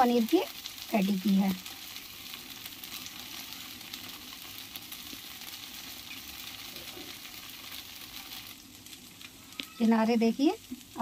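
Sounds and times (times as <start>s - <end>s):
crepe sizzling in oil: 0.0s - 11.0s.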